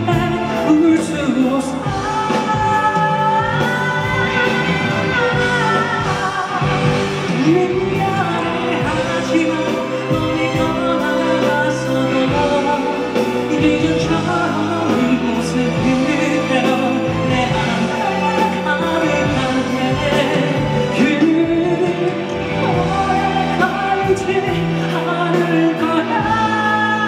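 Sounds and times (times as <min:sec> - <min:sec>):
live pop band playing: 0:00.0 - 0:27.0
person singing: 0:00.0 - 0:27.0.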